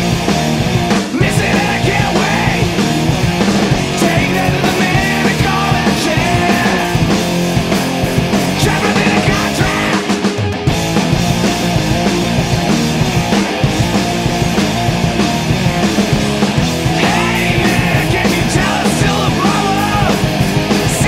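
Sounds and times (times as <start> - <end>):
rock music with drum beat: 0.0 - 21.0.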